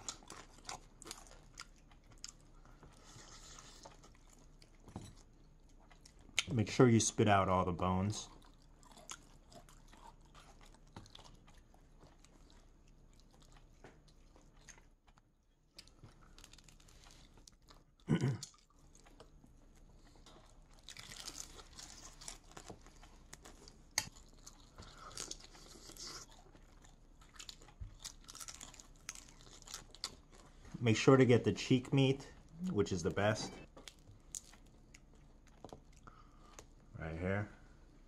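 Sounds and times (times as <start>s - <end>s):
person chewing crispy food: 0.0s - 6.6s, 8.0s - 30.8s, 32.4s - 36.8s.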